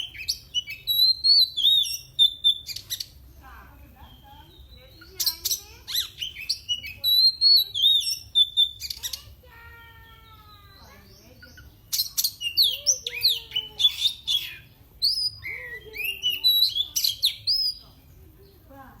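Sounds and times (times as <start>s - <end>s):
bird singing whistled notes: 0.0s - 3.2s, 4.0s - 9.2s, 10.6s - 18.7s.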